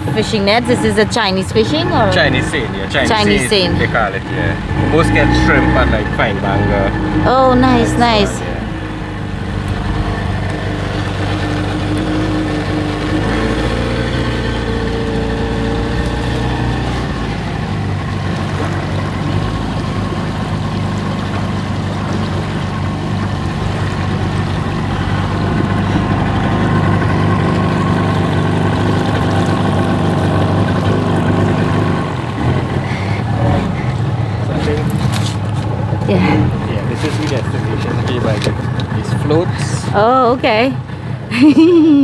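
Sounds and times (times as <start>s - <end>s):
water washing along hull: 0.0s - 41.9s
outboard motor running: 0.0s - 42.0s.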